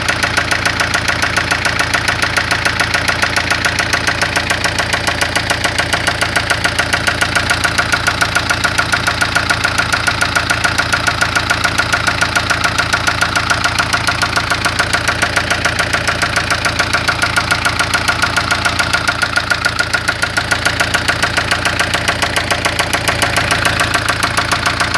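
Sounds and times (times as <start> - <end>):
car engine idling: 0.0 - 24.9
engine knocking: 0.0 - 24.9.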